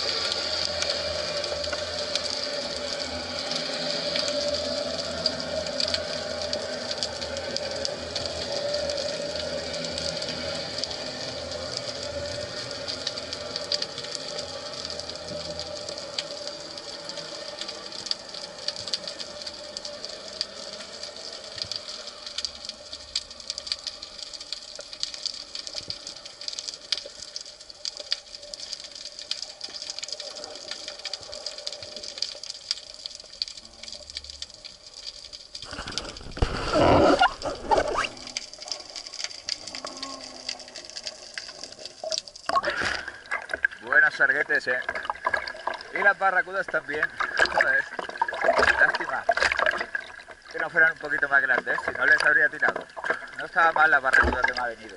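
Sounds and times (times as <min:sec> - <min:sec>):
rush of water and bubbles: 0:00.0 - 0:54.9
underwater crackle of clicks: 0:00.0 - 0:54.9.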